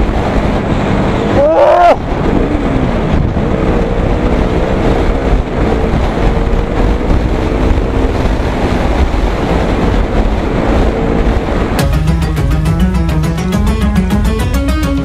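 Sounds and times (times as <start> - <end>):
motorcycle engine hum: 0.0 - 15.0
wind noise on microphone: 0.0 - 15.0.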